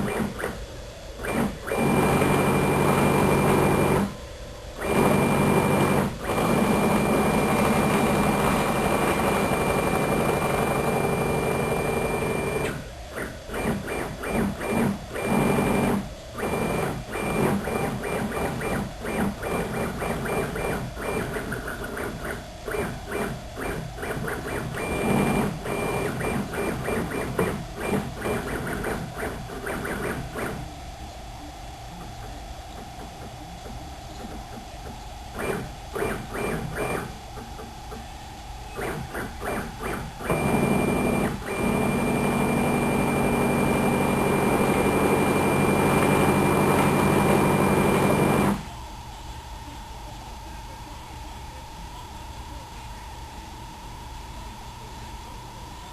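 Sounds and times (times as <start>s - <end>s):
stepper motors whining: 0.0s - 30.7s, 31.9s - 48.8s.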